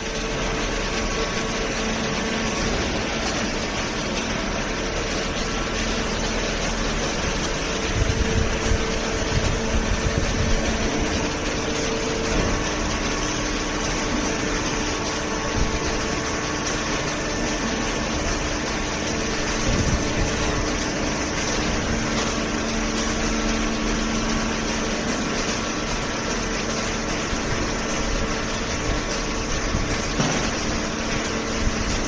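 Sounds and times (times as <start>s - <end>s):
baler machine hum: 0.0s - 32.0s.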